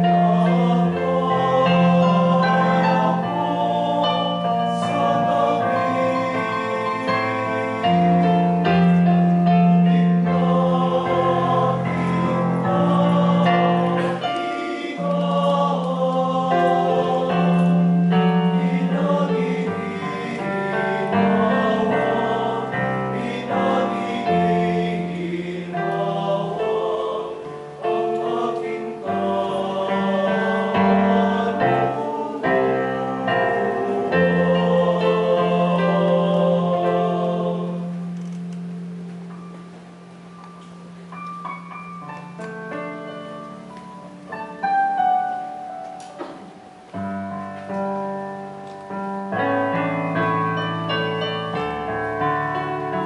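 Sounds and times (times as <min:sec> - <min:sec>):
choir singing a hymn: 0:00.0 - 0:39.0, 0:49.3 - 0:53.0
instrumental accompaniment: 0:00.0 - 0:53.0.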